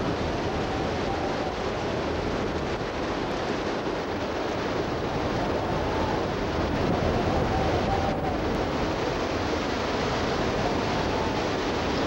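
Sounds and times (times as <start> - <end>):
strong wind on microphone: 0.0 - 12.0.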